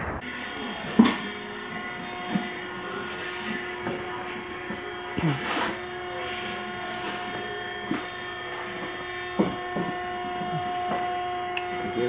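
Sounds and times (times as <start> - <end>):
multi-tone machine hum: 0.0 - 12.0
faint voices: 0.3 - 12.0.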